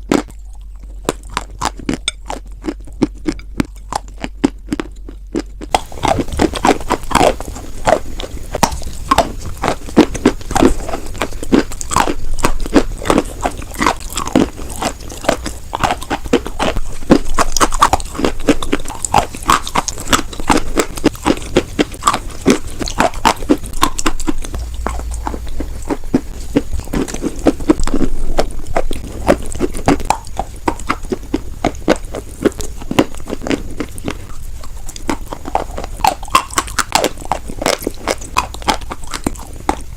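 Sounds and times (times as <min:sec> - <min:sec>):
chewing chalk crunching: 0:00.0 - 0:39.9.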